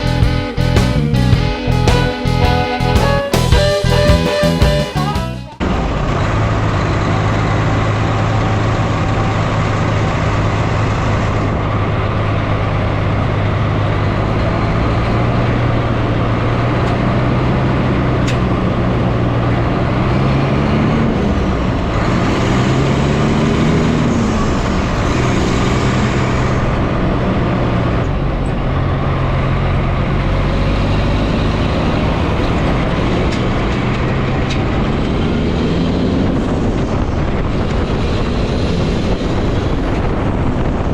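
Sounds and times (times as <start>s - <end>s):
farm vehicle engine running: 0.0s - 40.9s.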